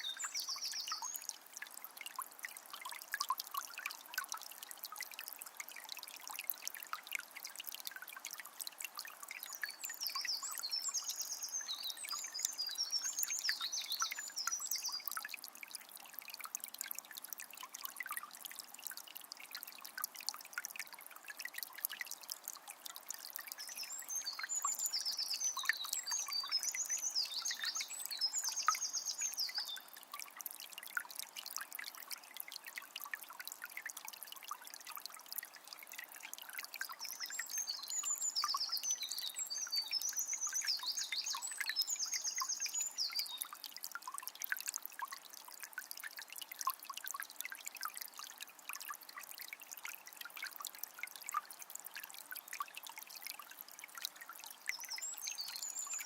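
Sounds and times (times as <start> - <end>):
spring water trickling: 0.0 - 56.0.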